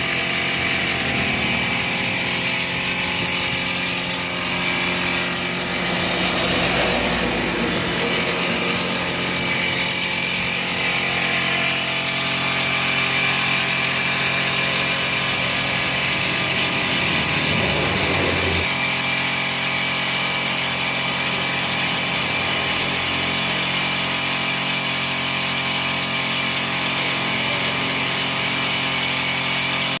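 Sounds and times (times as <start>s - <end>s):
pressure washer engine running: 0.0s - 30.0s.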